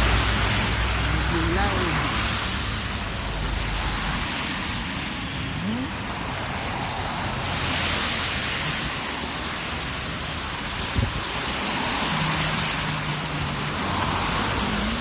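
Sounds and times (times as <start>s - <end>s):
traffic on slushy street: 0.0s - 15.0s.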